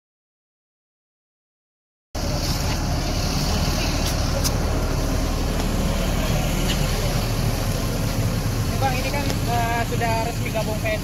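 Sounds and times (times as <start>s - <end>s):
bus engine idling: 2.2s - 11.0s.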